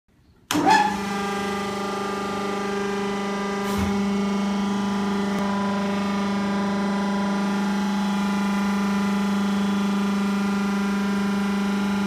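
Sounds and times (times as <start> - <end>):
hydraulic pump motor humming: 0.5 - 12.0.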